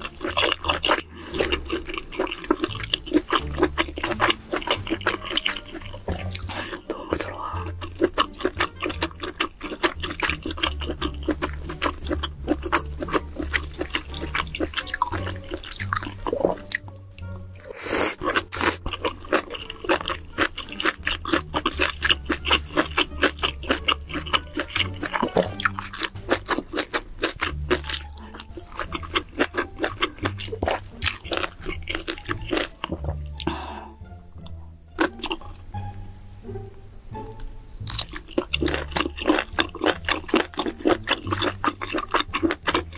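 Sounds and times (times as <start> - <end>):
person chewing food: 0.0 - 36.0, 37.2 - 42.9.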